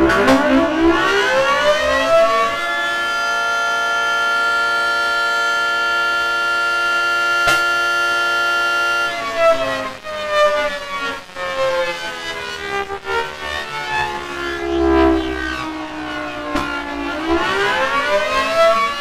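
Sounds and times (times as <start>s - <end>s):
civil defense siren: 0.0s - 19.0s.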